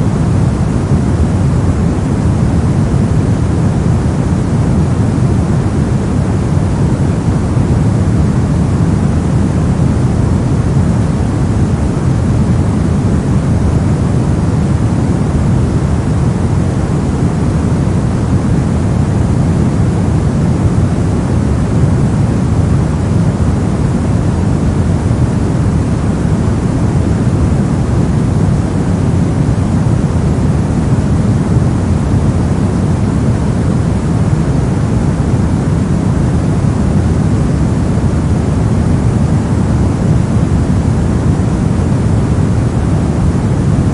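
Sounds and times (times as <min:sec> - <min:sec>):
deep white noise: 0:00.0 - 0:43.9.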